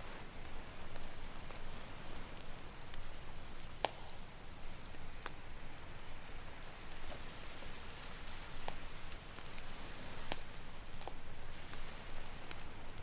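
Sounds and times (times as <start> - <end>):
campfire crackling: 0.0 - 13.0
sharp pops from fire: 0.0 - 13.0.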